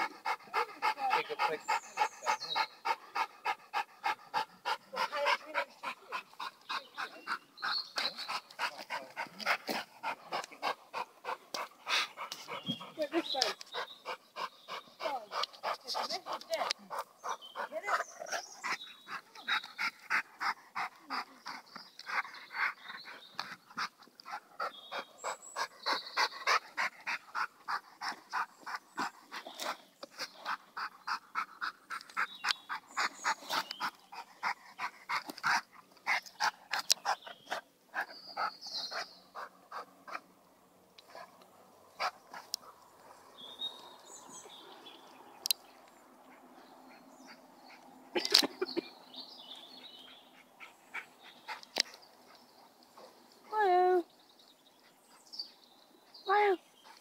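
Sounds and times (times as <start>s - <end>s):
dog panting: 0.0s - 40.3s, 41.0s - 43.7s, 46.1s - 48.8s, 49.5s - 53.6s, 56.7s - 57.0s.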